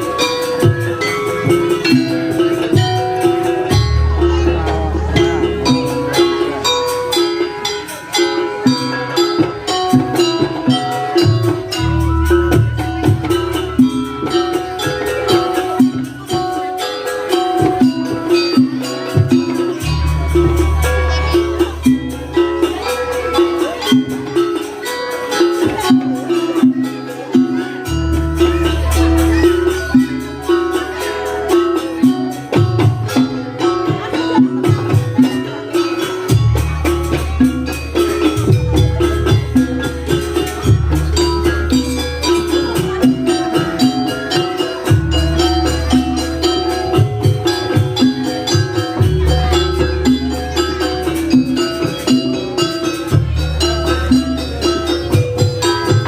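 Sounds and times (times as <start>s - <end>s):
pitched melodic notes: 0.0s - 56.0s
steady percussion beat: 0.0s - 56.0s.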